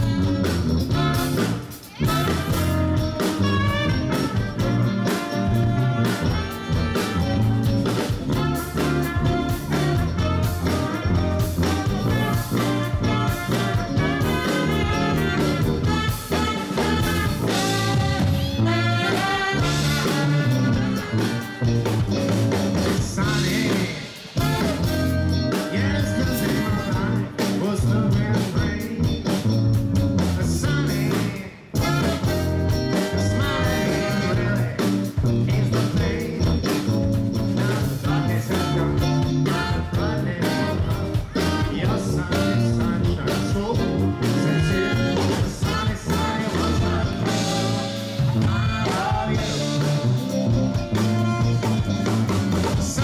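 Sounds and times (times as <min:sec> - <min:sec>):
man singing: 0:00.0 - 0:22.0, 0:22.7 - 0:53.0
live band playing: 0:00.0 - 0:53.0.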